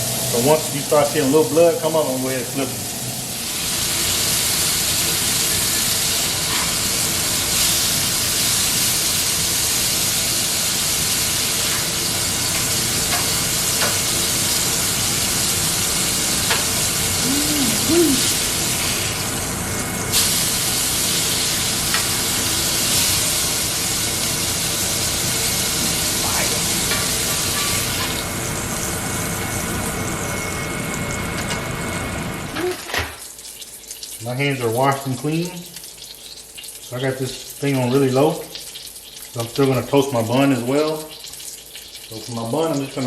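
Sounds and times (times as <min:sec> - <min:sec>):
burger patties sizzling: 0:00.0 - 0:43.0.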